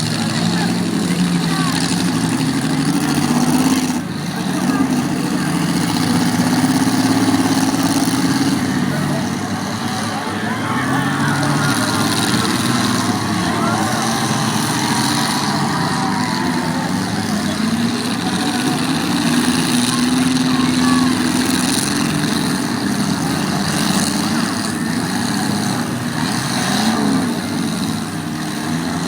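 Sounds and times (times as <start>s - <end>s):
car engines revving together: 0.0s - 29.0s.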